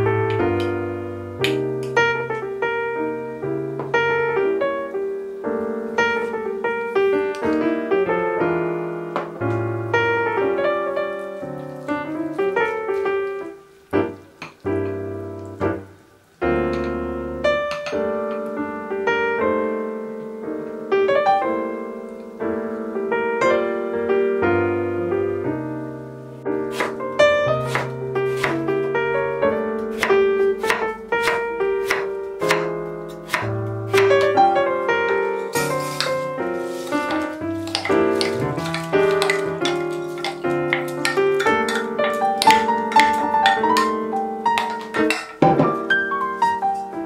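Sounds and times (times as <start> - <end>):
gentle piano music: 0.0 - 47.0.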